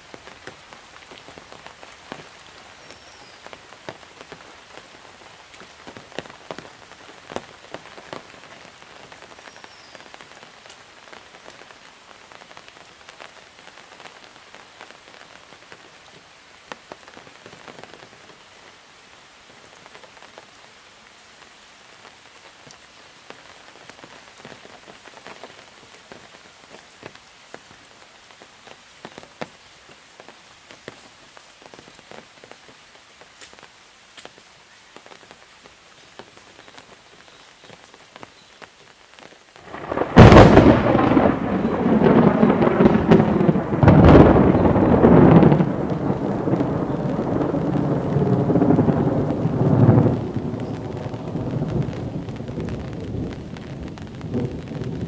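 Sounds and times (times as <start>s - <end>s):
rain drops pattering: 0.0s - 55.0s.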